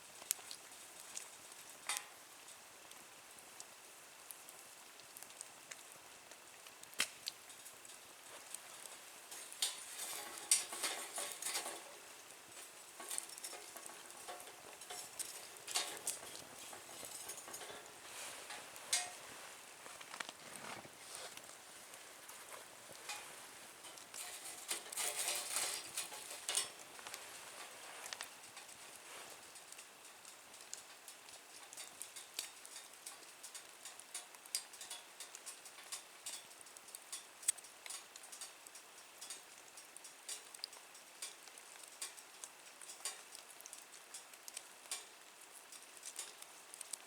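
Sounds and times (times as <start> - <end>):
faint fire hiss: 0.0 - 47.0
wood fire crackling and popping: 0.0 - 47.0.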